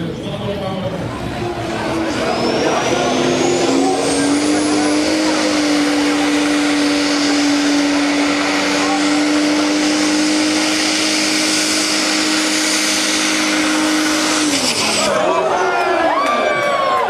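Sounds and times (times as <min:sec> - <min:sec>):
engine running at high pitch: 0:00.0 - 0:17.0.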